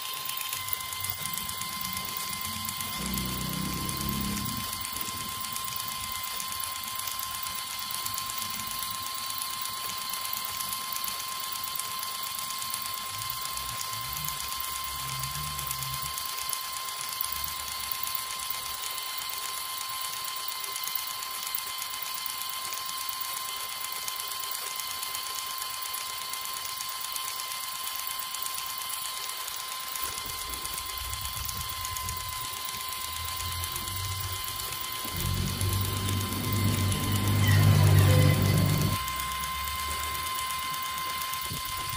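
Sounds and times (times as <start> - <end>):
small motor high-pitched whine: 0.0 - 41.9.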